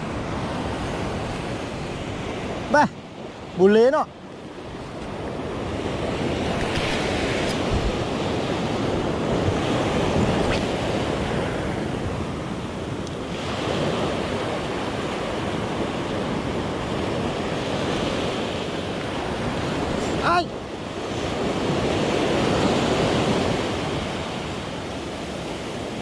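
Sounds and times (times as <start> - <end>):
surf washing against rocks: 0.0 - 26.0
wind on microphone: 4.6 - 26.0.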